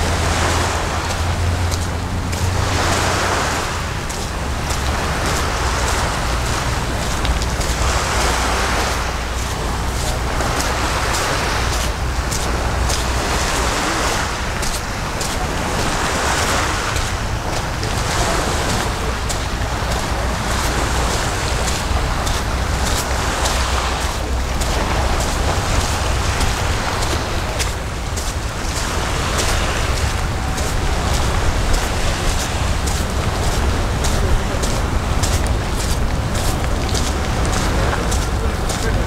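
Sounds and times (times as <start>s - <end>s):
sea waves washing on shore: 0.0s - 39.0s
wind rumble on microphone: 0.0s - 39.0s.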